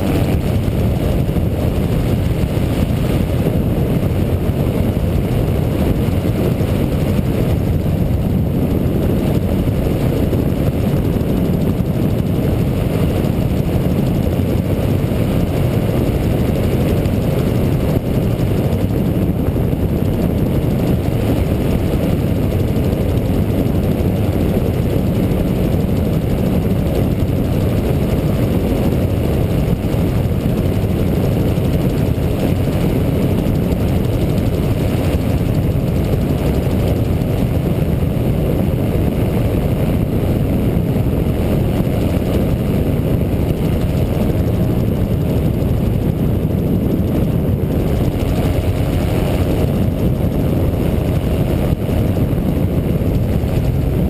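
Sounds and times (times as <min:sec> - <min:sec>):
aircraft engine and propeller drone: 0:00.0 - 0:54.0
wind noise: 0:00.0 - 0:54.0.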